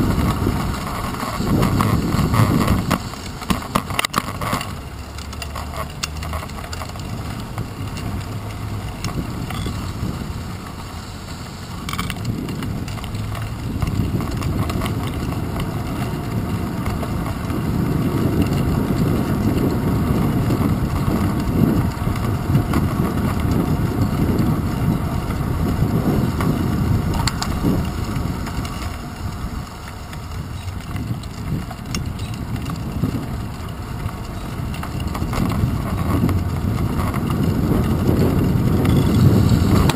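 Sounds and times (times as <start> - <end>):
faint clicks and rattles: 0.0 - 9.9, 10.6 - 39.9
tyres rumbling on pavement: 0.0 - 39.9
wind rushing over microphone: 0.0 - 39.9.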